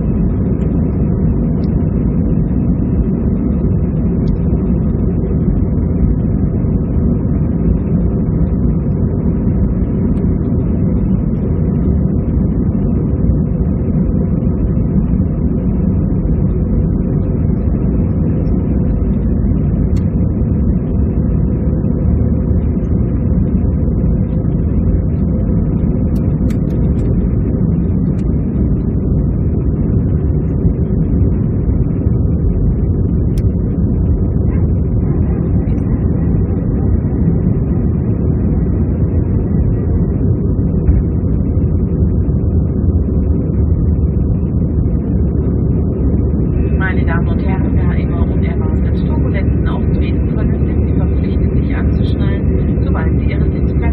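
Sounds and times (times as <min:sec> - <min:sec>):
jet engine cabin rumble: 0:00.0 - 0:53.9.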